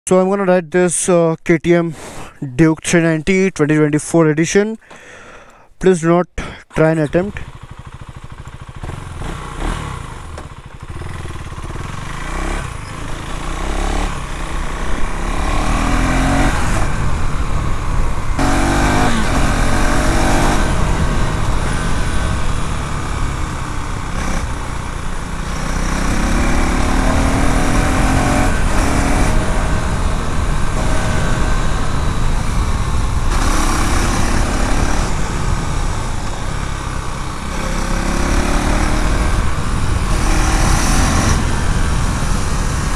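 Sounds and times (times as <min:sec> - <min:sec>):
motorcycle engine accelerating: 0:07.1 - 0:42.9.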